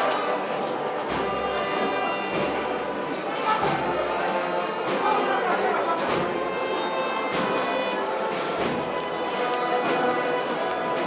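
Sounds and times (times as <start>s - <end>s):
processional band march: 0.0s - 11.0s.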